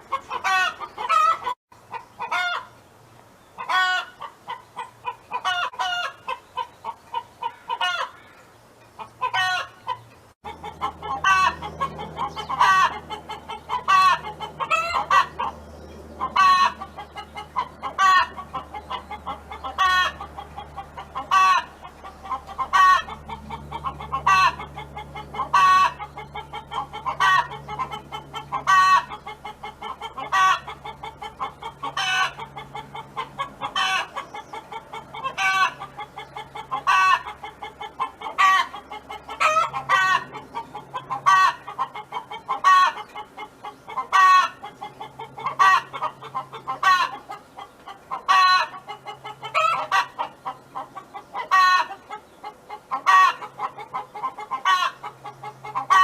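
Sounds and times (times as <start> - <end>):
hen clucking: 0.0 - 2.8, 3.6 - 8.4, 9.0 - 56.0.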